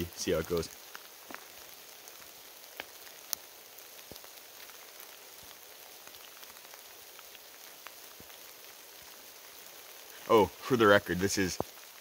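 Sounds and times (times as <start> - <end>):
steady rain falling: 0.0 - 12.0
ticks of nearby raindrops: 0.0 - 12.0.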